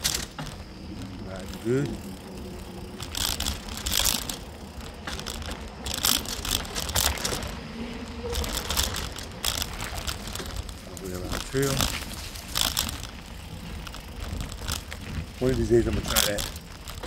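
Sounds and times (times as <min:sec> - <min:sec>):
bike rattling over bumps: 0:00.0 - 0:17.0
tyres crunching through leaves: 0:00.0 - 0:17.0.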